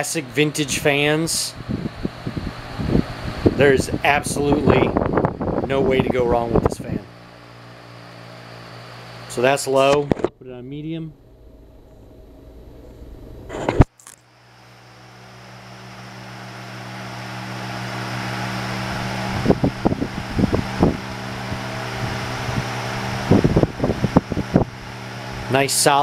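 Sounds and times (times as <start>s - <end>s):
rush of air from fan: 0.0s - 10.0s, 10.6s - 26.0s
fan motor hum: 0.0s - 26.0s.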